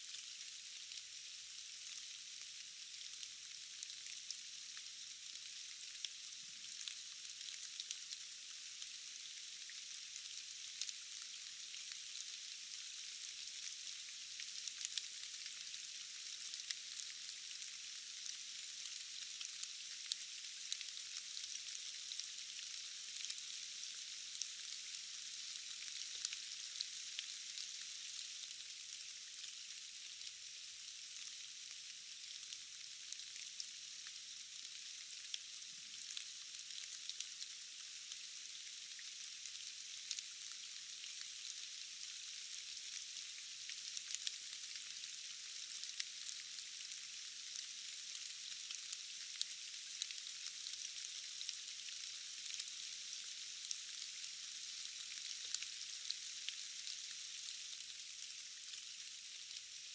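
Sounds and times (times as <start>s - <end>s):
rain hissing in forest: 0.0s - 59.9s.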